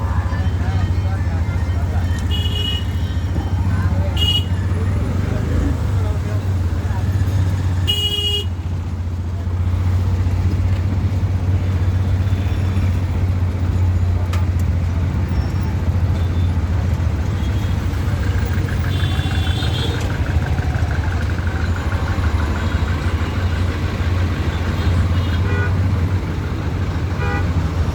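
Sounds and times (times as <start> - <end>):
vehicle engine low rumble: 0.0 - 27.9.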